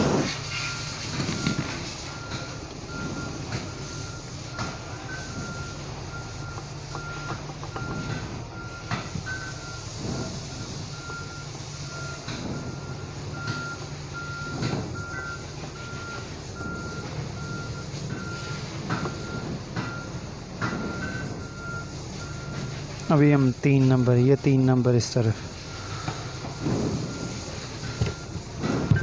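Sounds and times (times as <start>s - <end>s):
low engine hum: 0.0s - 29.0s
reversing alarm beeps: 0.0s - 29.0s.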